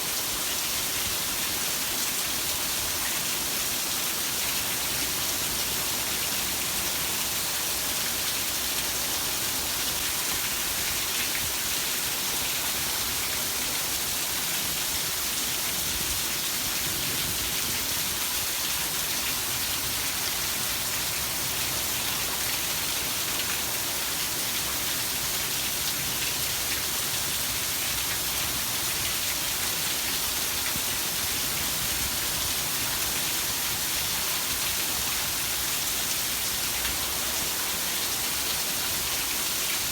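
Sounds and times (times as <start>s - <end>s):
heavy rain falling: 3.8s - 39.9s.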